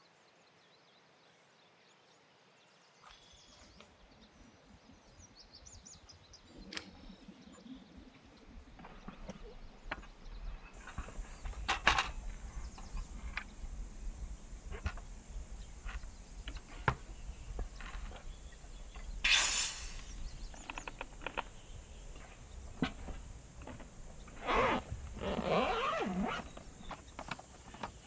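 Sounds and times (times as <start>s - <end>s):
insects humming: 3.1s - 8.8s, 10.8s - 28.0s.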